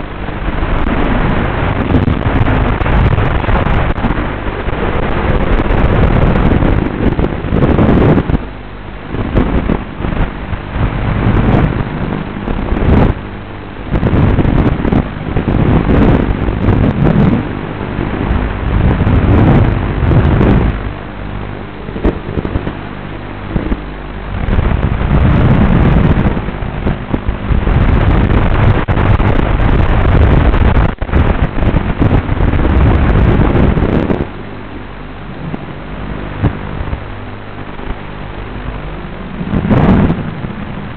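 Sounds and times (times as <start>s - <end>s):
steady low hum: 0.0s - 40.9s
wind rush: 0.0s - 40.9s.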